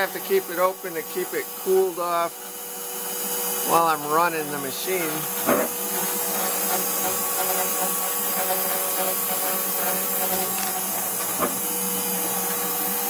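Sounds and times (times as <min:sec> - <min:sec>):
cnc router motor drone: 0:00.0 - 0:13.0
router motor whine: 0:00.0 - 0:13.0.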